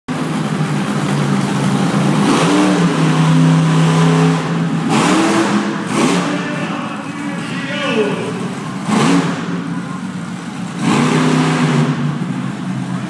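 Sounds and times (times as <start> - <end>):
monster truck engine revving: 0.1 - 13.0.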